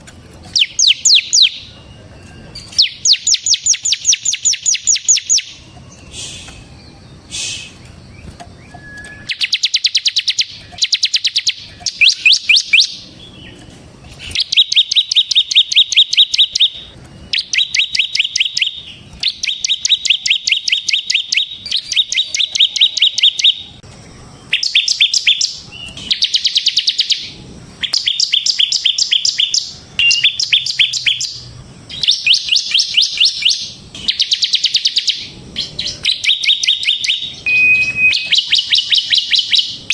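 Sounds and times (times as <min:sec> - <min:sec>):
bird singing rapid high trills: 0:00.5 - 0:39.9.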